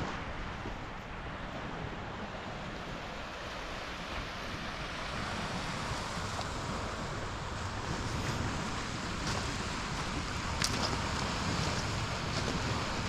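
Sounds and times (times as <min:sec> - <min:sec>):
lake waves on the shore: 0:00.0 - 0:13.0
wind buffeting the microphone: 0:00.0 - 0:13.0.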